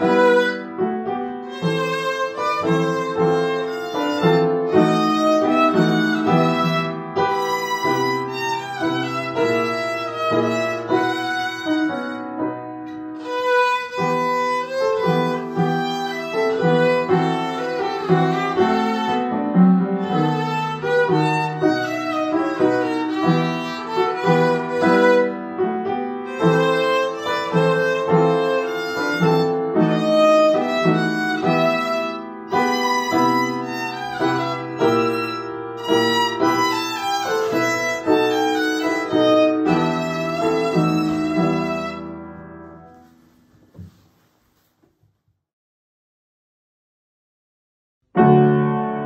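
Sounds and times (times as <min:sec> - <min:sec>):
violin melody: 0:00.0 - 0:43.2.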